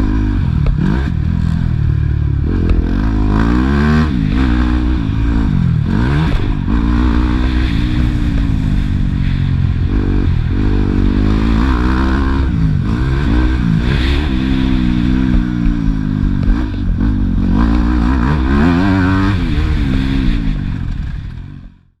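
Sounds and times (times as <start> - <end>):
motocross bike engine revving: 0.0 - 21.9.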